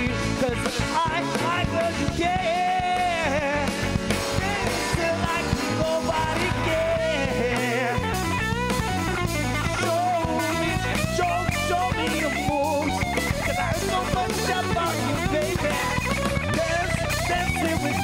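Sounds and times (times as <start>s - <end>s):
drums: 0.0s - 18.0s
electric bass: 0.0s - 18.0s
guitar: 0.0s - 18.0s
person singing: 0.0s - 18.0s.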